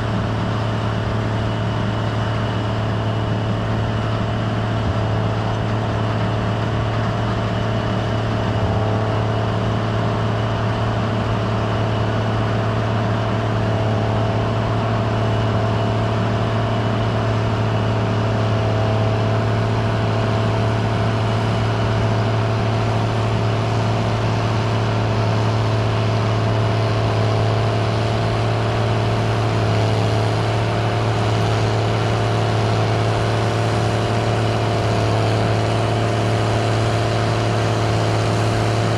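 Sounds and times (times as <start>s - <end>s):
combine harvester droning: 0.0s - 38.9s
constant machine whine: 0.0s - 38.9s.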